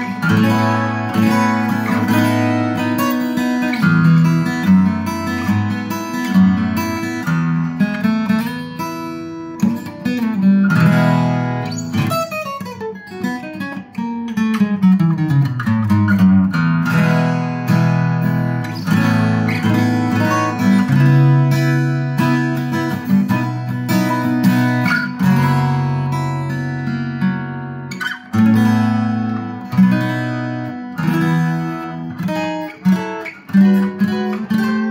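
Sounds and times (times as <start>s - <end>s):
fingerstyle acoustic guitar: 0.0s - 34.9s.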